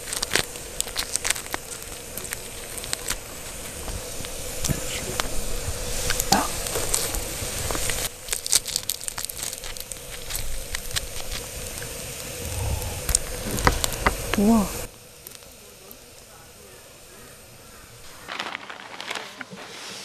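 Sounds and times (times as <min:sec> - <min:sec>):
campfire embers crackling: 0:00.0 - 0:19.9.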